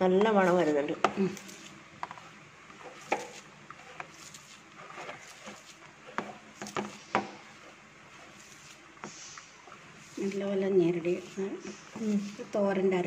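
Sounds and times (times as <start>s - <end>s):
hand scraping coconut on plate: 0.1s - 13.0s.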